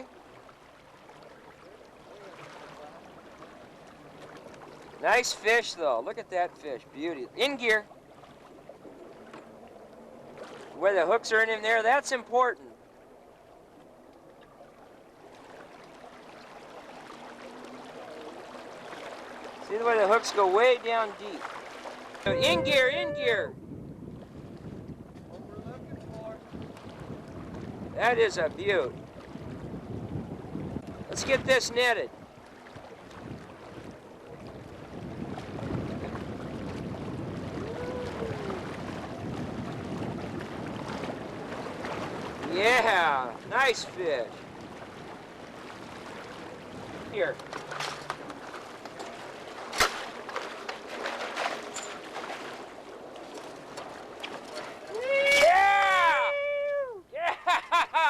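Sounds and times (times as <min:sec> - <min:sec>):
water rushing along boat hull: 0:00.0 - 0:58.0
wind: 0:00.0 - 0:58.0.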